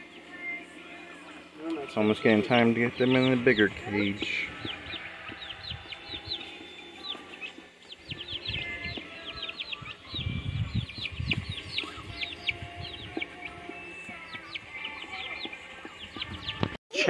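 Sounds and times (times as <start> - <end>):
chicks peeping: 0.0 - 16.8.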